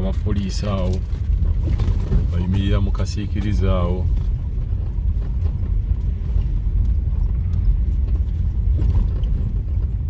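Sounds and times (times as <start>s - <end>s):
vehicle rumbling along road: 0.0s - 10.0s.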